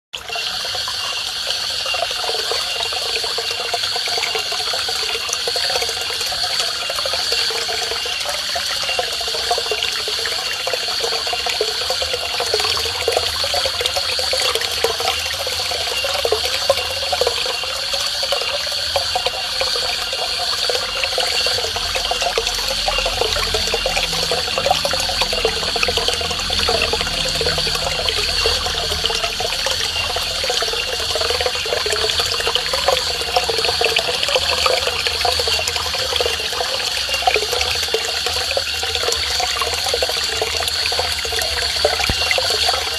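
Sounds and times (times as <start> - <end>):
waterfall splashing into pond: 0.2 - 42.9.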